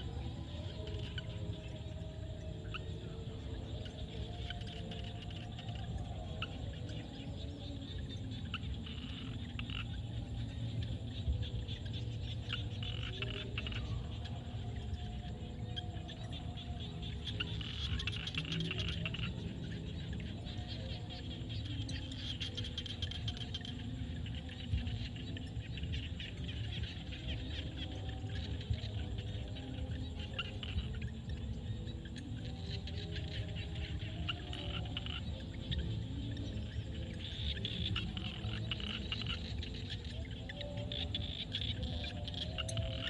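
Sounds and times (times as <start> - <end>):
frogs calling: 0.0 - 43.0.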